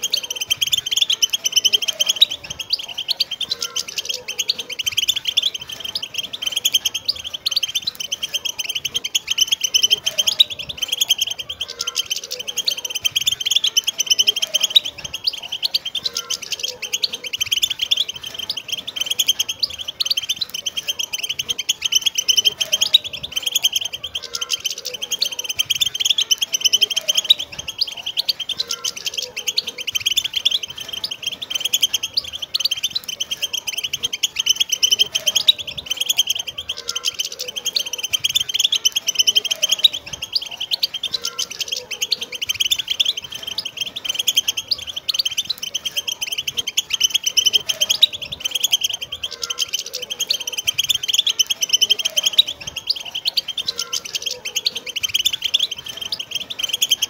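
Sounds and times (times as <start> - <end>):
goldfinches twittering: 0.0 - 57.0.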